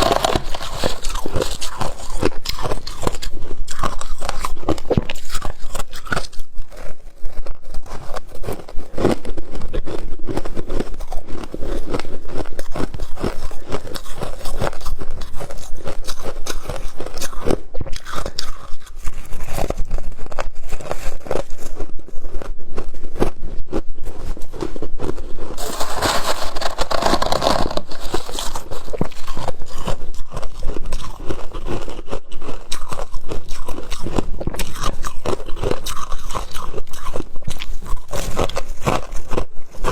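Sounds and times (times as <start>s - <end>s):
crunchy frost being chewed: 0.0s - 39.9s.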